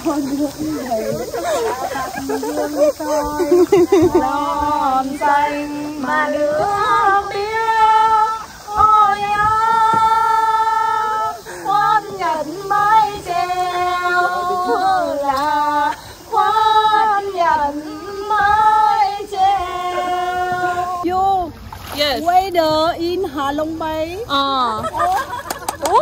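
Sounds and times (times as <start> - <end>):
woman singing unaccompanied: 0.0 - 25.0.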